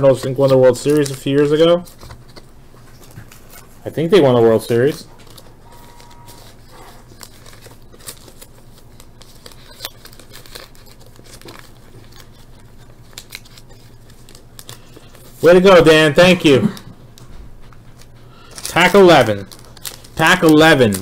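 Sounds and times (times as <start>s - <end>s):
foil wrappers crinkling: 0.0s - 21.0s.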